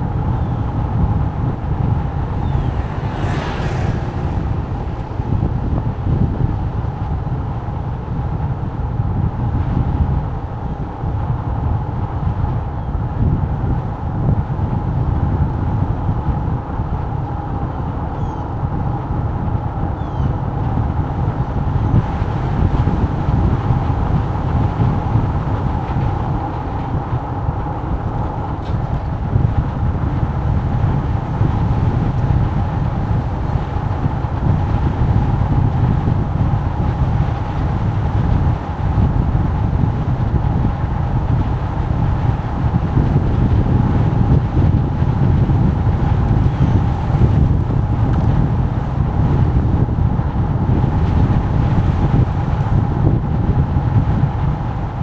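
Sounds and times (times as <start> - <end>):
mid-pitched hum: 0.0 - 55.0
moving vehicle rumble: 0.0 - 55.0.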